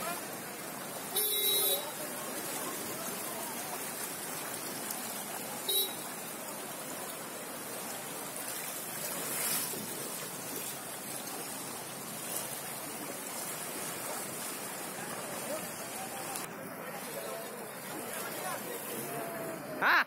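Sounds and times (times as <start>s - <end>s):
heavy rain: 0.0s - 19.8s
floodwater rushing: 0.0s - 20.0s.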